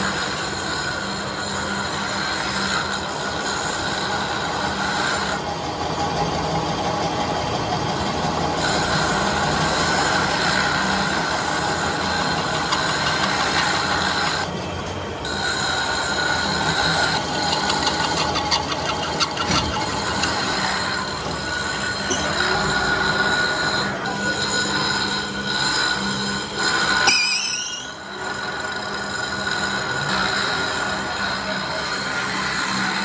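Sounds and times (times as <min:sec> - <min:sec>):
lathe cutting tool squealing: 0:00.0 - 0:33.0
lathe running noise: 0:00.0 - 0:33.0.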